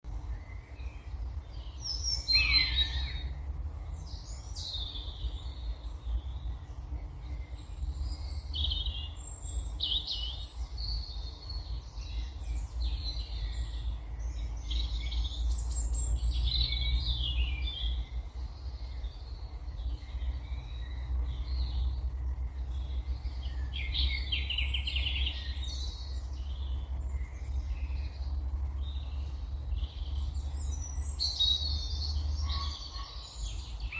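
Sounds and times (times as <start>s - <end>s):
low steady rumble: 0.1s - 33.9s
songbirds singing: 0.1s - 33.9s.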